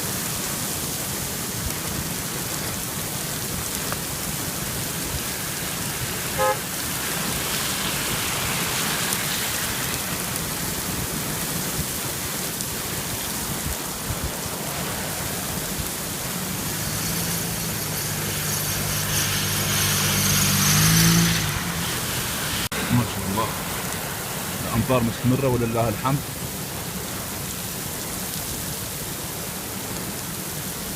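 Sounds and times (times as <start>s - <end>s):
car passing on wet road: 0.0s - 30.9s
heavy rain falling: 0.0s - 30.9s.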